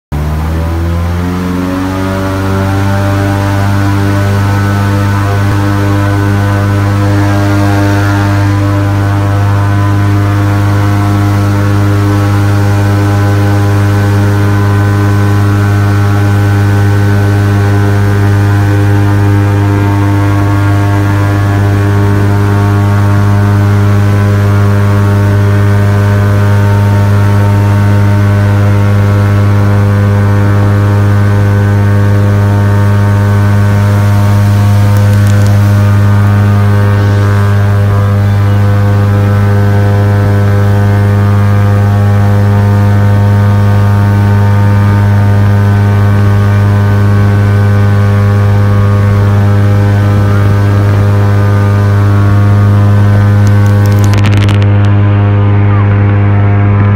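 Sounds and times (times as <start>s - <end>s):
airboat engine and propeller drone: 0.1s - 56.9s.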